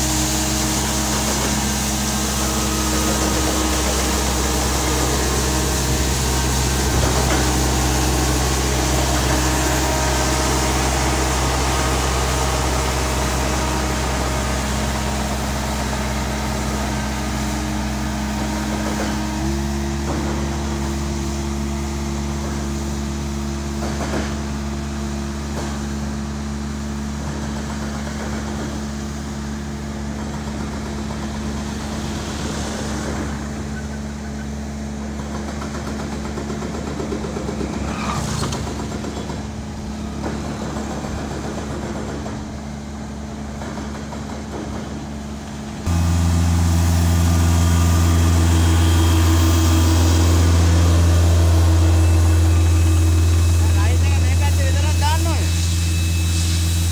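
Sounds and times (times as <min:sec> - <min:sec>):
air compressor engine hum: 0:00.0 - 0:56.9
diesel engine running: 0:00.0 - 0:56.9.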